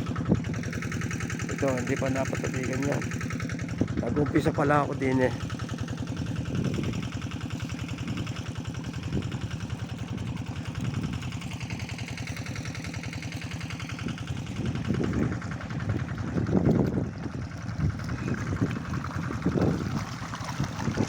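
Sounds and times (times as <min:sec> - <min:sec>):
diesel water pump engine chugging: 0:00.0 - 0:21.0.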